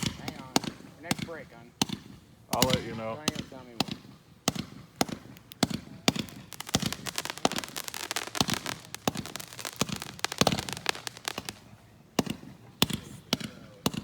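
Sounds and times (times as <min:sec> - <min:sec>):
fireworks bangs and crackles: 0:00.0 - 0:14.0
low firework thuds: 0:00.0 - 0:14.0.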